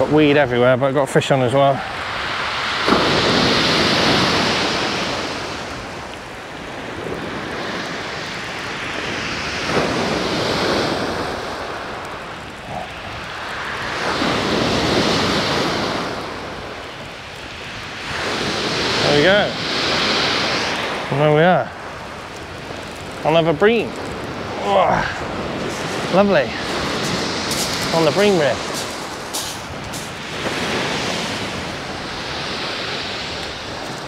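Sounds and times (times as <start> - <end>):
surf breaking on shingle beach: 0.0 - 34.0
wind buffeting microphone: 0.0 - 34.0.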